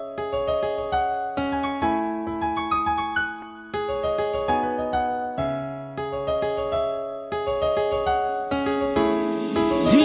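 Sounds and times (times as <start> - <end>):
piano-like keyboard melody: 0.0 - 10.0.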